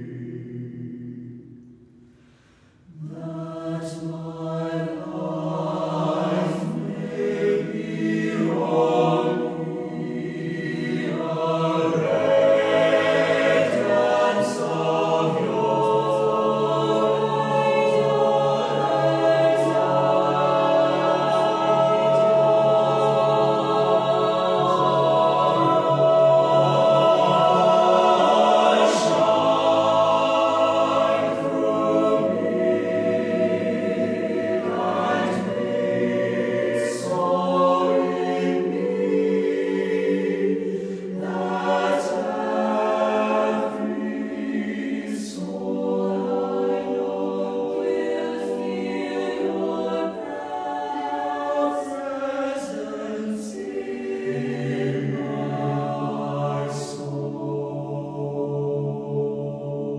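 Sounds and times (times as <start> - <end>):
choir singing sustained chords: 0.0 - 59.9.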